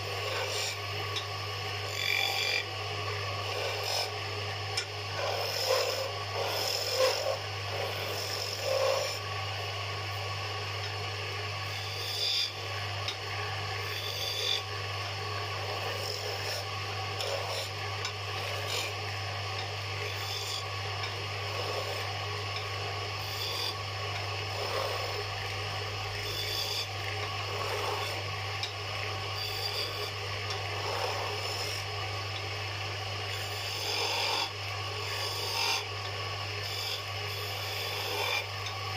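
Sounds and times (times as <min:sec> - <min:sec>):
turning tool rasping on wood: 0:00.0 - 0:01.0, 0:01.8 - 0:09.3, 0:11.7 - 0:25.3, 0:26.1 - 0:28.7, 0:29.4 - 0:32.4, 0:33.3 - 0:35.9, 0:36.6 - 0:38.8
lathe motor hum: 0:00.0 - 0:38.9.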